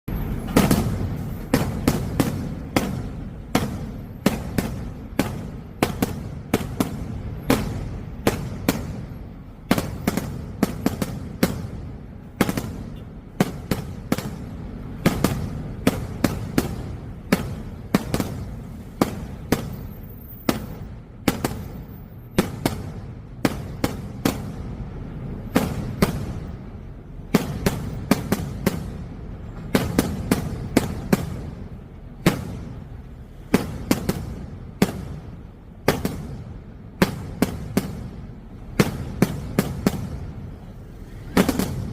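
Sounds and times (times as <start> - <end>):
fireworks banging: 0.1 - 41.9.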